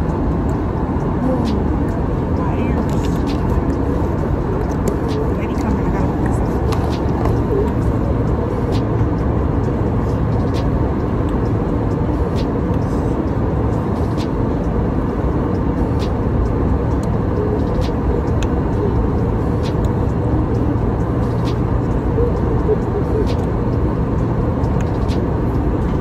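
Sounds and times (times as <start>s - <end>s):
airliner cabin drone: 0.0s - 26.0s.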